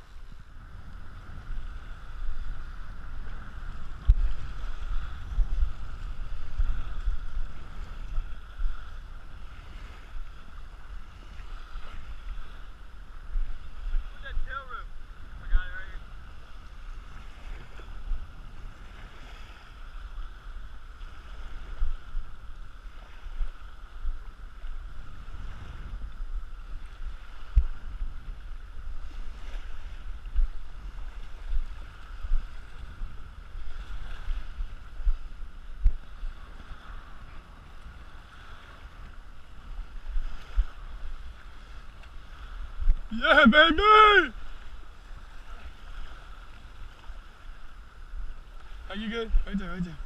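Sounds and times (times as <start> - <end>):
small waves washing on sand: 0.0 - 50.0
wind rumbling on microphone: 0.0 - 50.0.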